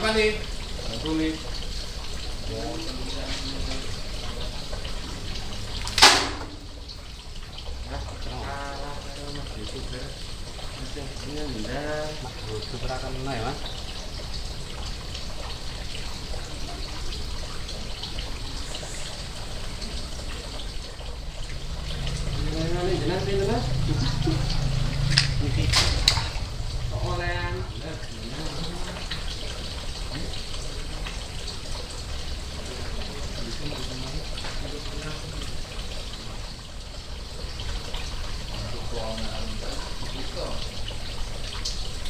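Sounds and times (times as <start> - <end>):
running water trickling: 0.0 - 42.0.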